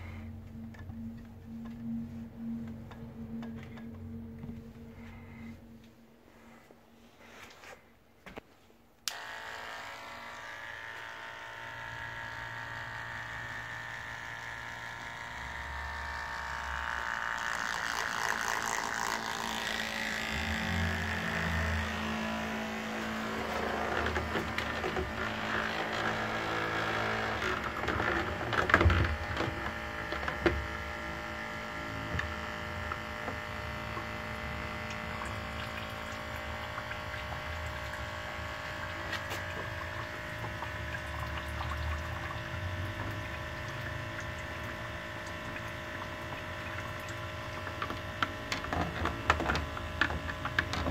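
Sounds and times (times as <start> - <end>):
electric pump running: 0.0 - 6.7, 9.0 - 50.9.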